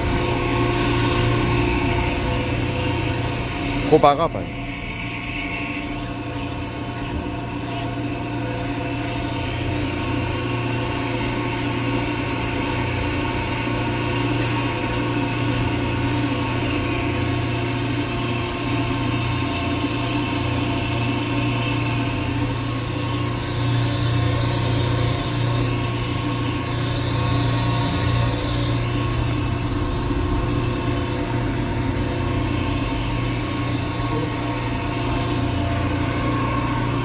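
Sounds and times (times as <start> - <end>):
vacuum pump humming: 0.0 - 37.0.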